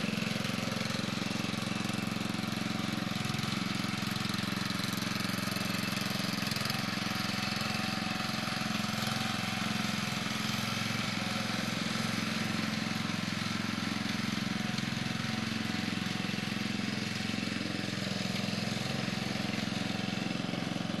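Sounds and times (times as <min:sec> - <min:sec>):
riding mower engine running: 0:00.0 - 0:21.0.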